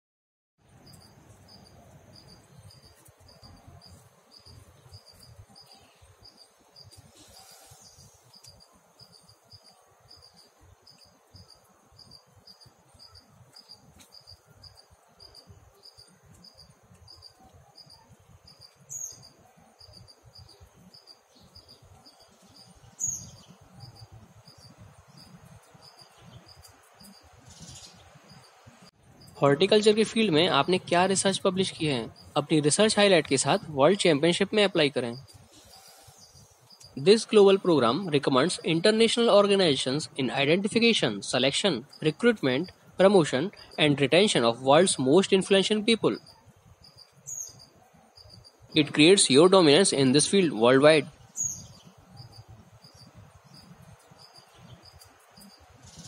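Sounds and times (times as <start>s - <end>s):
crickets chirping: 0.6s - 56.0s.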